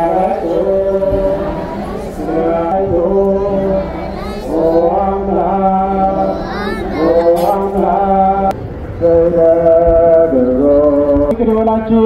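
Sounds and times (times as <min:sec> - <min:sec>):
steady low hum: 0:00.0 - 0:12.0
women and children singing a hymn: 0:00.0 - 0:12.0.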